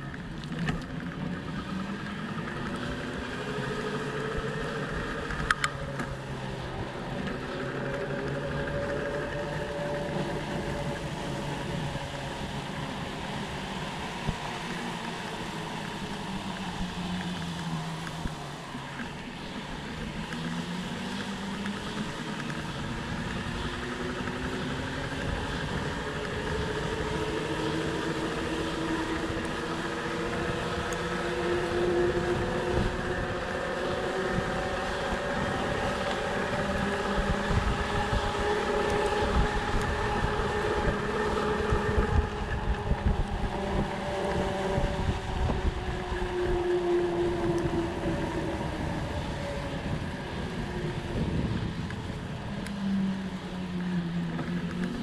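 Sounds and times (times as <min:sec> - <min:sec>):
bike tyres humming: 0:00.0 - 0:55.0
wind buffeting microphone: 0:00.0 - 0:55.0.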